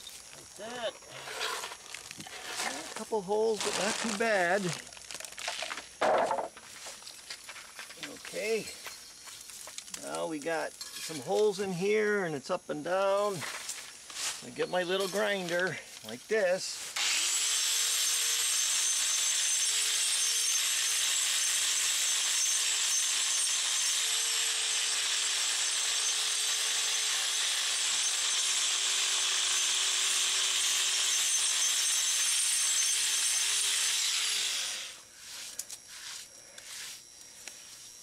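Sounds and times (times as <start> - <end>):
angle grinder grinding concrete: 0.0 - 8.8, 14.2 - 38.0.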